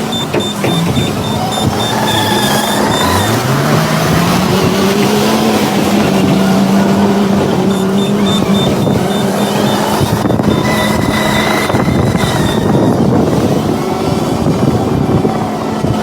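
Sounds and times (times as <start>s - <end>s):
bulldozer diesel engine revving: 0.0s - 16.0s.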